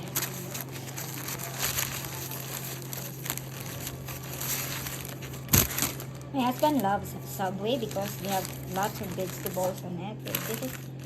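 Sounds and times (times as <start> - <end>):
paper wrapper crinkling: 0.0 - 11.0.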